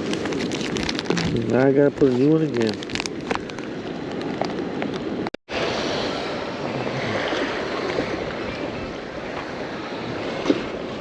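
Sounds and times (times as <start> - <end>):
wind: 0.0 - 11.0
waves at water's edge: 1.5 - 11.0.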